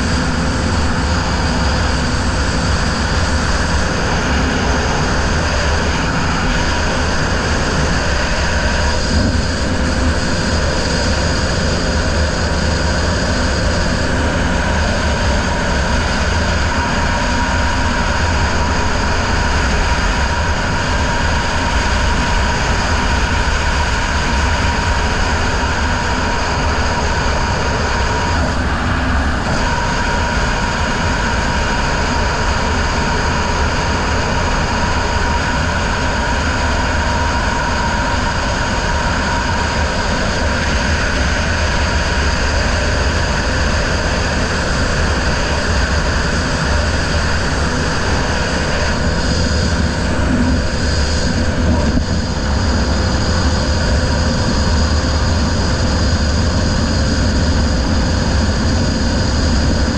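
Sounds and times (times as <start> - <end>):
outboard motor at high speed: 0.0 - 59.9
wind buffeting microphone: 0.0 - 59.9.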